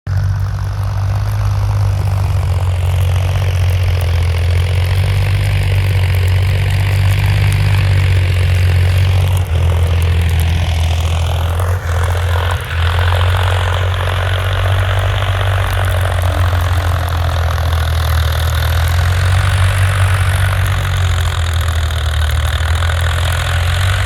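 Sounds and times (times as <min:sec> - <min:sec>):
tractor diesel engine running: 0:00.1 - 0:24.0.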